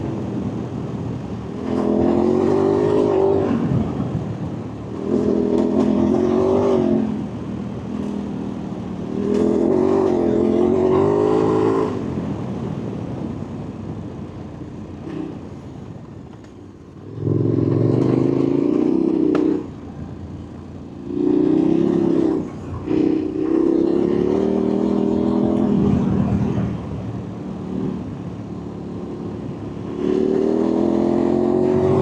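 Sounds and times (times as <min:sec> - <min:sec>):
motorcycle engine revving: 0:00.0 - 0:13.1, 0:14.8 - 0:32.0.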